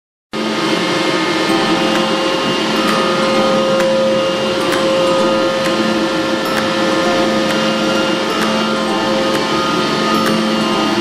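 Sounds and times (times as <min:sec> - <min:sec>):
cutting machine whine and hum: 0:00.4 - 0:11.0.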